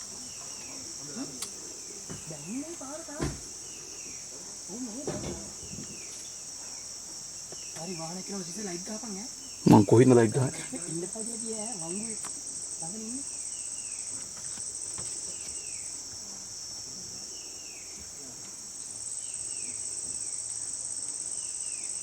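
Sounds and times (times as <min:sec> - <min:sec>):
crickets shrilling: 0:00.0 - 0:22.0.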